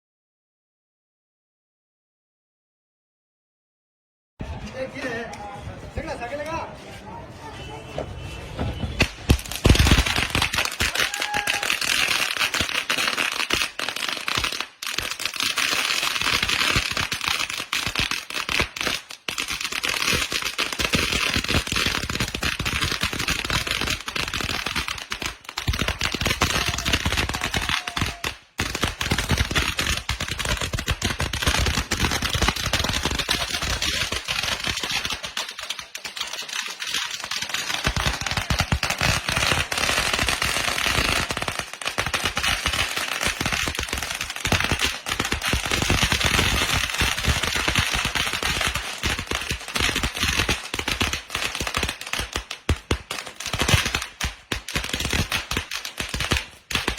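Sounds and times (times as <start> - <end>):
firecrackers crackling: 4.4 - 56.9.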